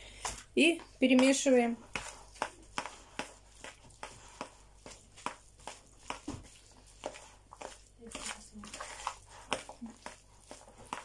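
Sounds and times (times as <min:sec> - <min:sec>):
wet squelching mixing strokes: 0:00.0 - 0:11.0.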